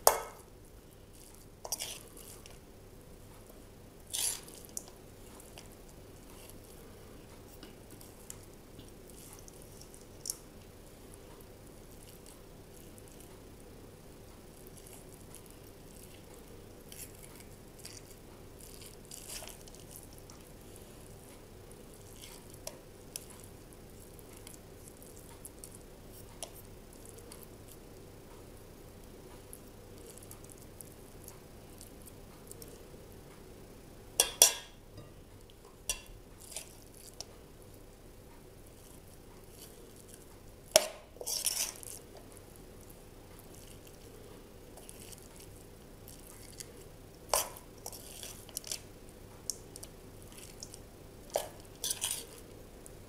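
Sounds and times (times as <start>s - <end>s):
spoon squishing meat stuffing: 0.0s - 33.0s, 34.2s - 38.0s, 38.6s - 53.0s.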